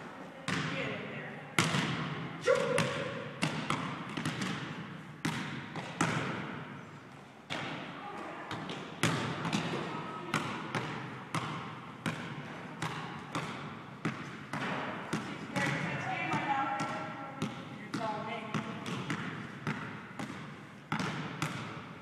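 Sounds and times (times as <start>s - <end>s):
basketball bouncing on hard court: 0.5s - 1.0s, 1.6s - 6.7s, 7.5s - 7.9s, 8.5s - 22.0s.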